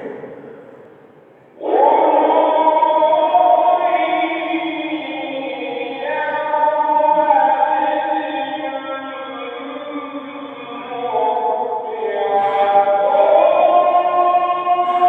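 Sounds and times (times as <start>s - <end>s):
man chanting a long held note: 1.6s - 15.0s.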